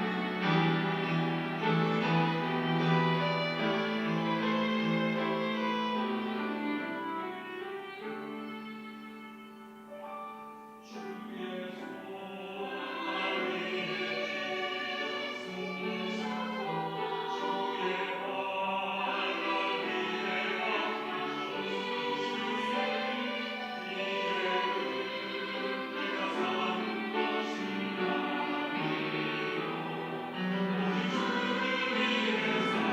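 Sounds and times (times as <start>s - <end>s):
choir singing: 0.0s - 8.6s, 10.8s - 32.9s
strings accompaniment: 0.0s - 32.9s.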